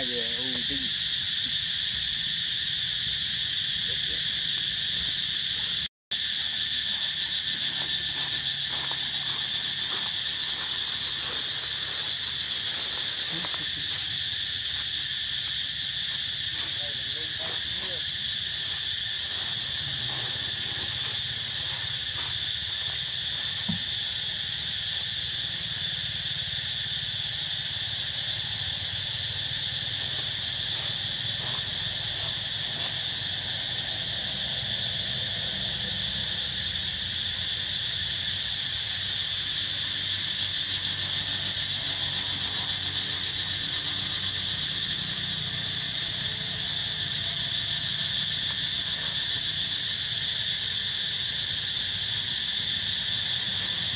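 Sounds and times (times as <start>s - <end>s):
insect chorus buzzing: 0.0s - 53.9s.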